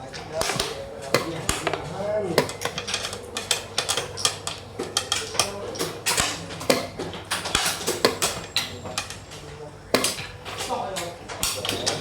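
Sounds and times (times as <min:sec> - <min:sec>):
hard objects clattering together: 0:00.0 - 0:12.0.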